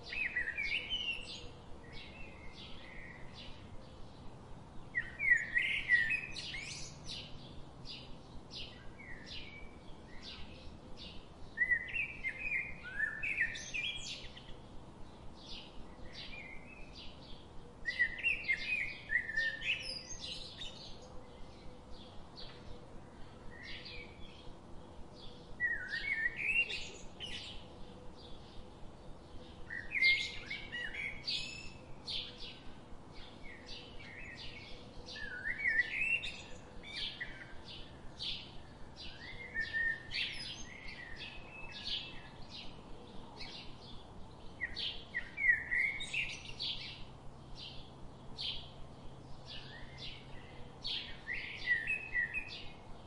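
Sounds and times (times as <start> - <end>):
birds twittering song: 0.0 - 53.0
small birds chirping: 0.0 - 53.0.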